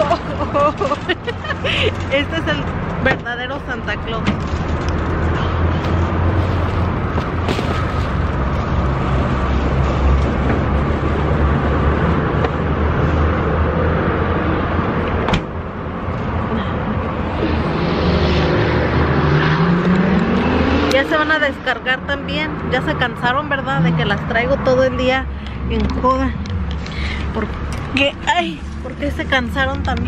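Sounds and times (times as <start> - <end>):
car driving rumble from inside: 0.0 - 30.0.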